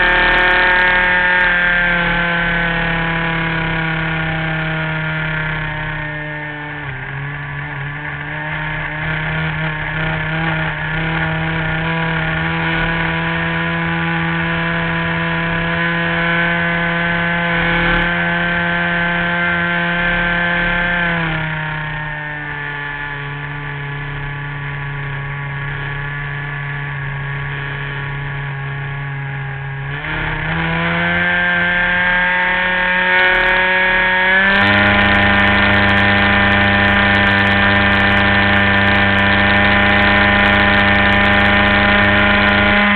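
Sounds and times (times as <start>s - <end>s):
model airplane engine running: 0.0s - 42.9s.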